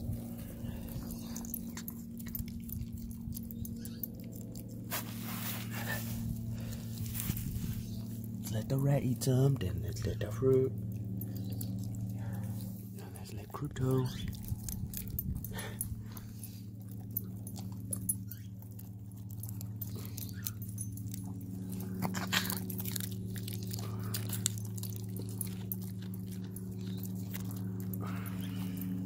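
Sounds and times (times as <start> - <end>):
dog crunching asparagus: 0.0 - 29.0
low hum: 0.0 - 29.0.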